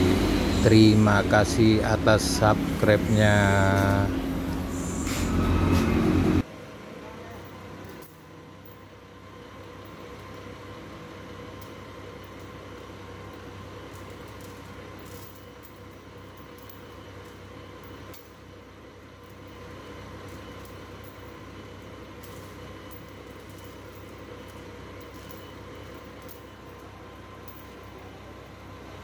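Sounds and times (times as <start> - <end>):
forklift engine running: 0.0 - 29.0.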